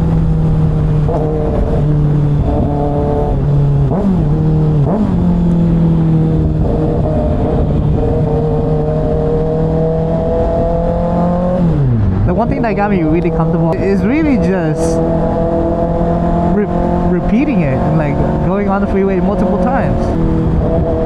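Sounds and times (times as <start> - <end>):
motorcycle engine running: 0.0 - 21.0
rush of wind: 0.0 - 21.0.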